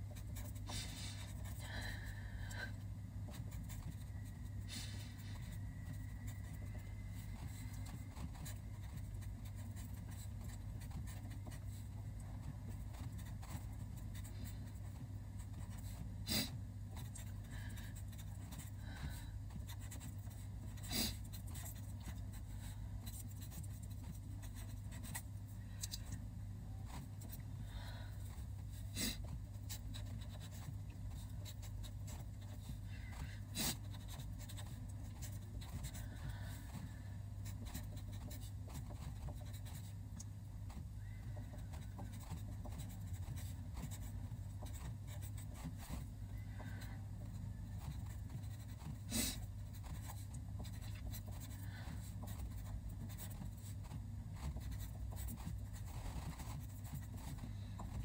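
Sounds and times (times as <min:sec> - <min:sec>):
marker pen writing on paper: 0:00.0 - 0:01.6, 0:03.3 - 0:25.4, 0:28.3 - 0:40.0, 0:40.7 - 0:58.0
steady low hum: 0:00.0 - 0:58.0.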